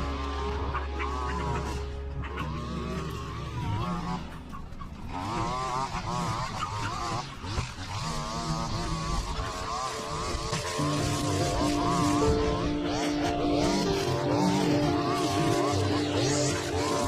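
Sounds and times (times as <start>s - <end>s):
string trimmer cutting grass: 0.0s - 17.0s.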